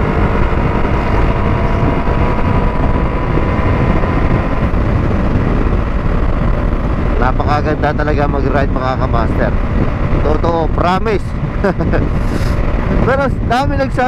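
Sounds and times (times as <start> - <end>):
motorcycle engine cruising: 0.0 - 14.0
wind rush on microphone: 0.0 - 14.0.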